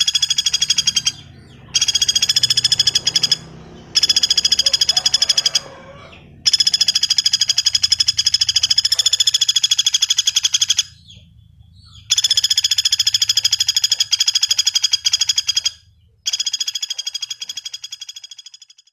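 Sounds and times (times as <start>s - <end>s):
woodpecker rattling call: 0.0s - 18.9s.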